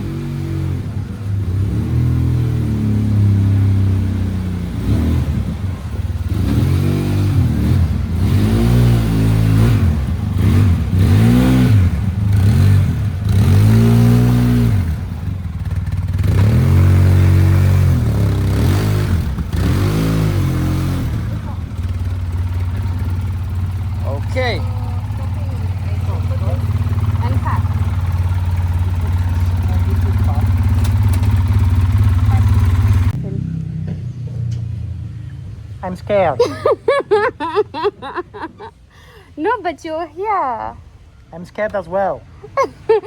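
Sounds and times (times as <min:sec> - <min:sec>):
quad bike engine revving: 0:00.0 - 0:34.5.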